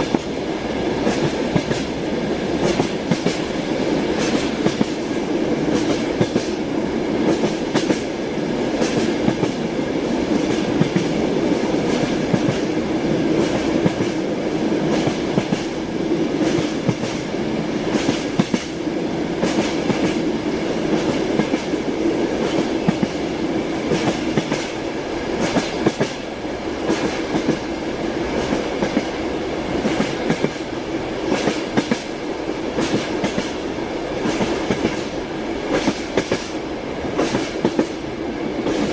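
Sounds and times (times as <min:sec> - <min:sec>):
train rumble: 0:00.0 - 0:38.9
train wheels clicking over rail joints: 0:01.0 - 0:18.8, 0:19.4 - 0:23.2, 0:23.8 - 0:38.9.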